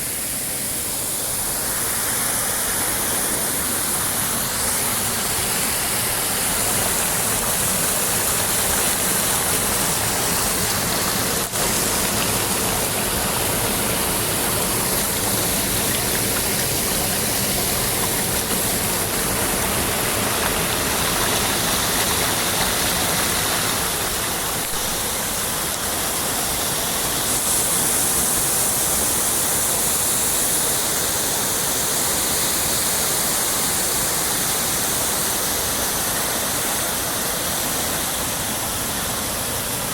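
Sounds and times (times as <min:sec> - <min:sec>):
water pouring over a dam: 0:00.0 - 0:39.9.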